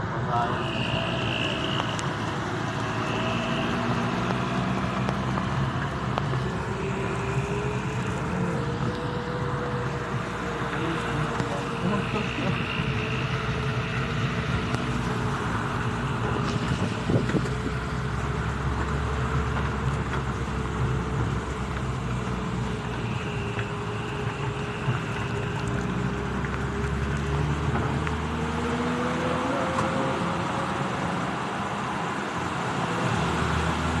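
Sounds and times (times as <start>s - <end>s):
road noise: 0.0s - 34.0s
vehicle engine running: 0.0s - 34.0s.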